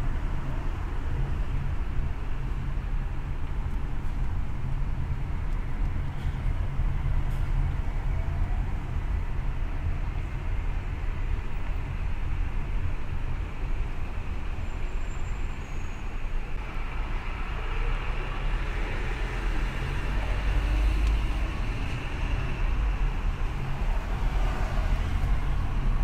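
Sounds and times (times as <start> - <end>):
car road noise: 0.0 - 26.0.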